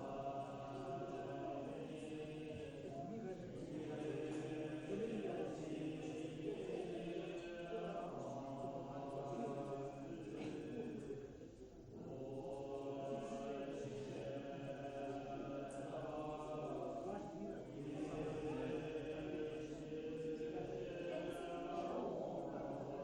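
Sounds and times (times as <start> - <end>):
voices chanting: 0.0 - 10.7, 12.0 - 23.0.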